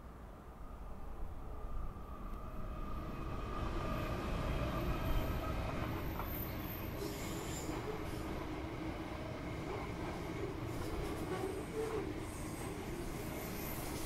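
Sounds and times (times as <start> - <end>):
diesel locomotive passing: 0.3 - 14.0.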